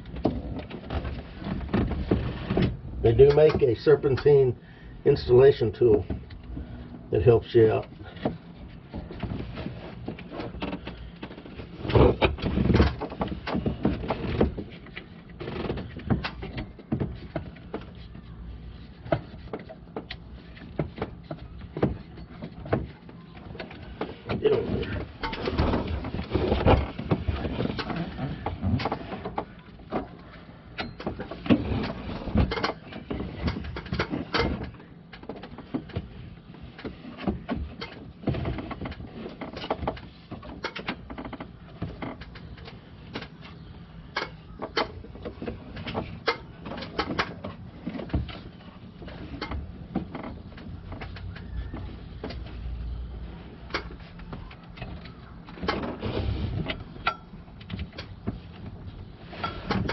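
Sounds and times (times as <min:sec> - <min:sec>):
tools clicking and knocking on engine: 0:07.7 - 0:56.0.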